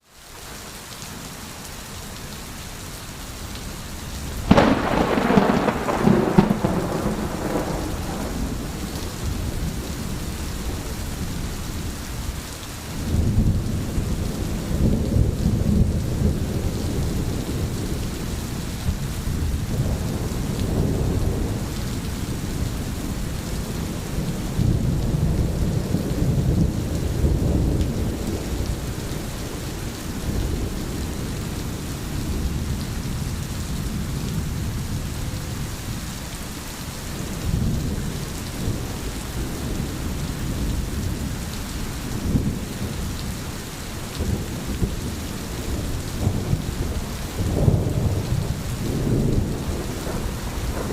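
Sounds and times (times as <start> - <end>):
heavy rain hissing: 0.0 - 50.9.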